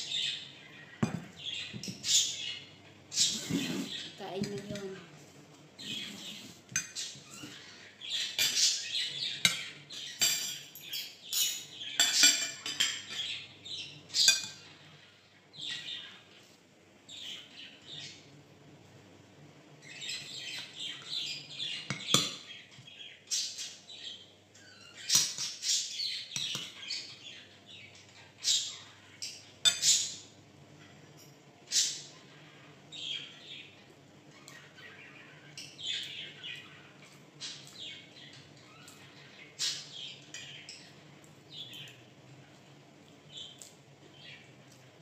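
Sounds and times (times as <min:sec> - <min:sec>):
bird chirping and squawking: 0:00.0 - 0:04.2, 0:05.8 - 0:16.4, 0:19.8 - 0:42.0.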